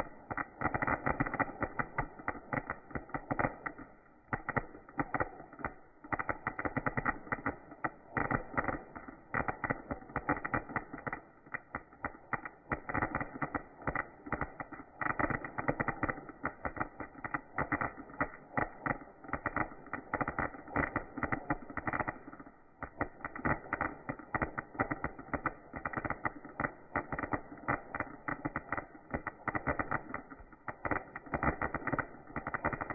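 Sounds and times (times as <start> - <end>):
fireworks crackling: 0.0 - 32.9.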